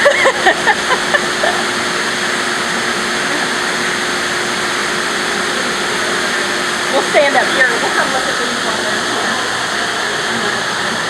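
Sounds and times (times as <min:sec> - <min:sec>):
faint equipment hum: 0:00.0 - 0:11.0.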